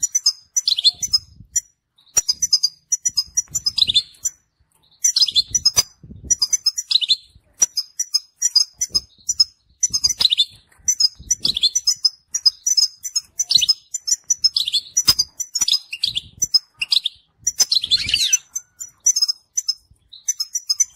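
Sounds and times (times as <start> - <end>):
finch singing high twittering chirps: 0.0 - 20.9.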